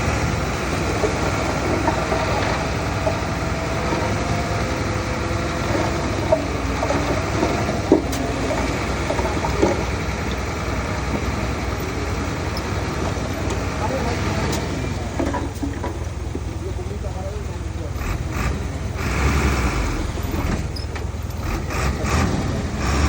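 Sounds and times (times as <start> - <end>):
heavy diesel machinery engine: 0.0 - 23.0.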